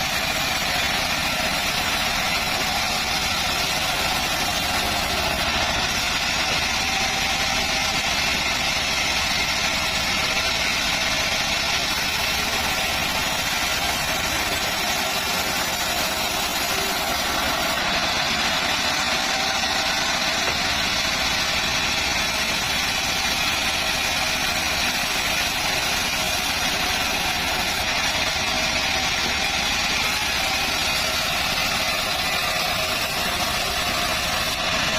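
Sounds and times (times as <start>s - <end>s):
band saw blade humming: 0.0s - 34.9s.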